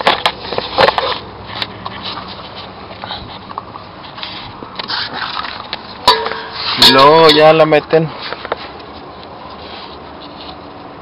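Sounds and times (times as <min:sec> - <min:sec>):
handling rustling and clicks: 0:00.0 - 0:11.0.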